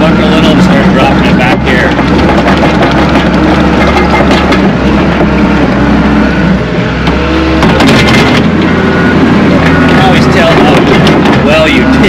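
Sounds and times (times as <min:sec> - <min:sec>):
hydraulics working: 0:00.0 - 0:12.0
skid steer engine under load: 0:00.0 - 0:12.0.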